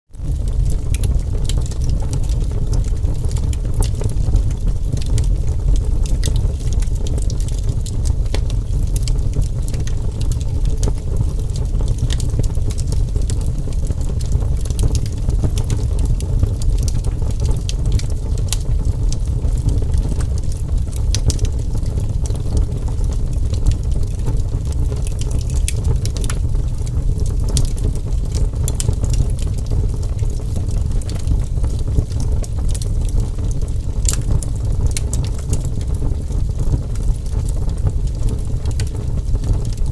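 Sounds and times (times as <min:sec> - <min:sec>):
low roar of flames: 0:00.1 - 0:39.9
wood fire crackling and popping: 0:00.1 - 0:39.9.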